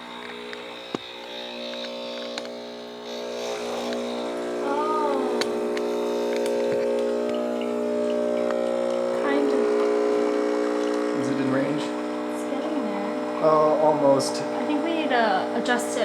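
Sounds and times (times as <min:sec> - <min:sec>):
espresso machine pump buzzing: 0:00.0 - 0:16.0.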